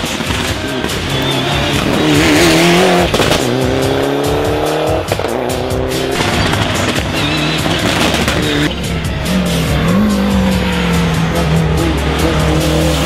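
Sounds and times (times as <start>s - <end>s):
rally car engines revving: 0.0s - 13.0s.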